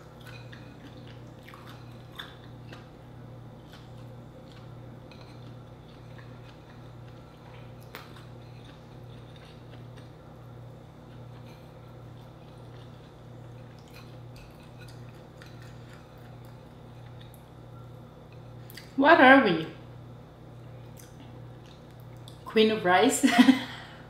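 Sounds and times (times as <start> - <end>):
chewing: 0.0 - 17.6, 18.3 - 19.0, 20.8 - 22.5
steady low hum: 0.0 - 24.0.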